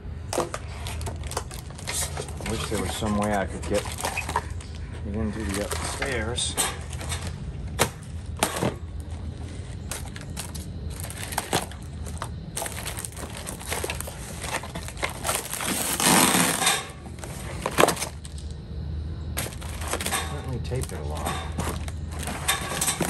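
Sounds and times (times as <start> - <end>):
cardboard rustling and scraping: 0.3 - 18.5, 19.4 - 23.0.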